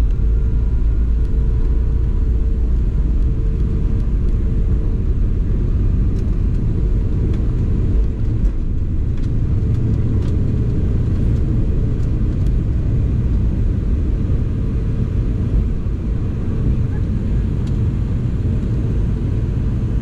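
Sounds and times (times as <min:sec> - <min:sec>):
jet engine low rumble: 0:00.0 - 0:20.0.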